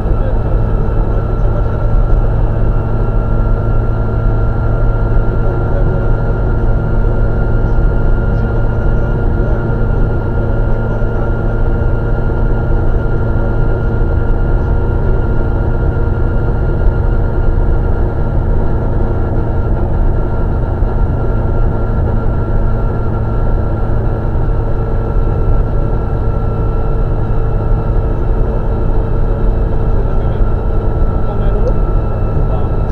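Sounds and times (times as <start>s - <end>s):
car engine running steadily: 0.0s - 32.9s.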